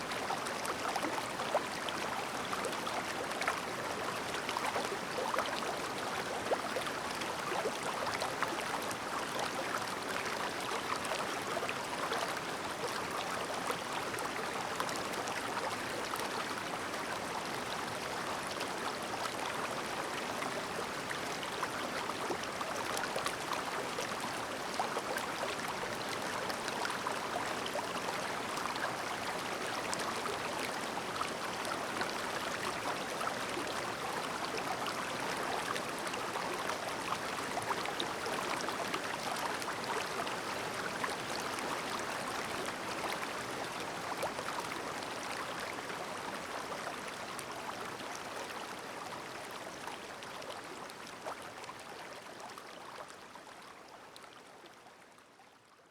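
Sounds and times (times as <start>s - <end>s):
stream babbling: 0.0s - 53.3s.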